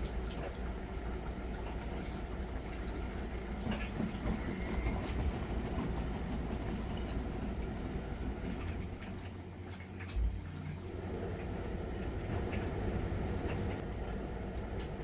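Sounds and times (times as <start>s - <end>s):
water sloshing in drum: 0.0s - 13.8s
washing machine motor hum: 0.0s - 15.0s.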